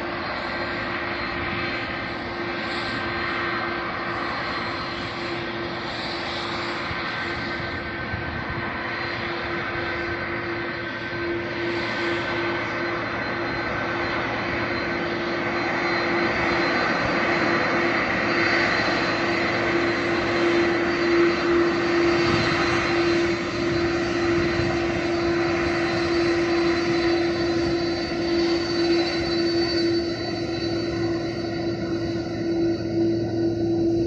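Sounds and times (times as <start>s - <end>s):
jet engines at takeoff power: 0.0s - 34.0s.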